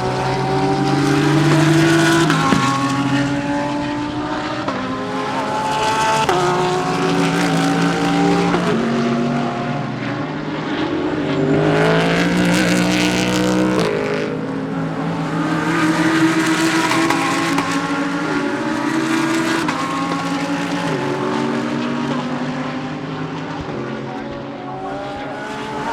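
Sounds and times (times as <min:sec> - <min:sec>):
race cars passing at high revs: 0:00.0 - 0:25.9.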